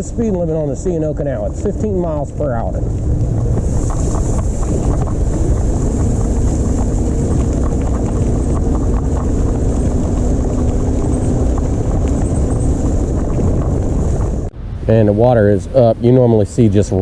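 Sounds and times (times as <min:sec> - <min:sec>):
tyres rolling on rough path: 0:00.0 - 0:15.1
wind buffeting microphone: 0:00.0 - 0:17.0.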